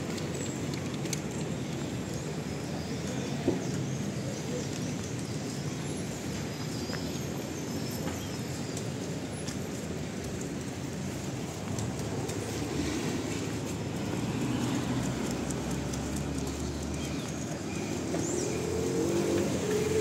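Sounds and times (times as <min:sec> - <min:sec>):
low city rumble: 0:00.0 - 0:20.0.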